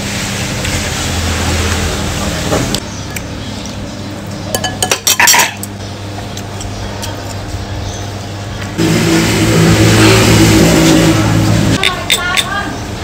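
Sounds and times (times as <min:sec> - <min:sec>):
steady engine-like hum: 0:00.0 - 0:13.0.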